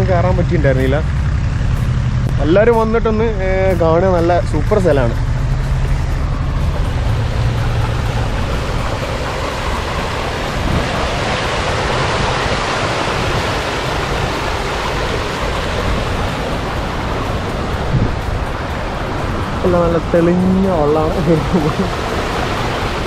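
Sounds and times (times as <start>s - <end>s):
waterfall rushing and splashing: 2.4s - 23.0s.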